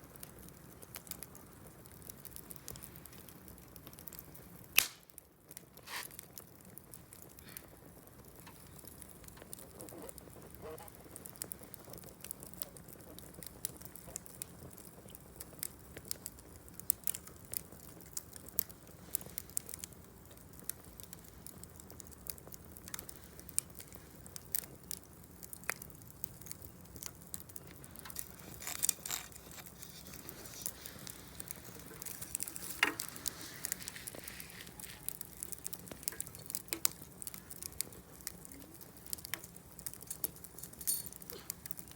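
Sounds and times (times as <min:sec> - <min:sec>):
fire snapping: 0:00.0 - 0:41.9
wood fire crackling: 0:00.0 - 0:41.9.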